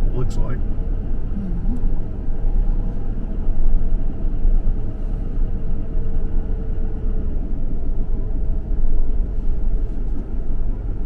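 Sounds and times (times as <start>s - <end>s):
vehicle driving slowly: 0.0s - 11.0s.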